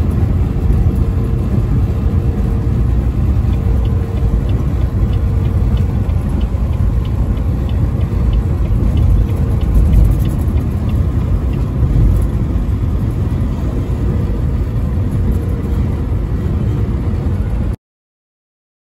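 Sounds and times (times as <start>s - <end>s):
vehicle road rumble: 0.0s - 17.8s.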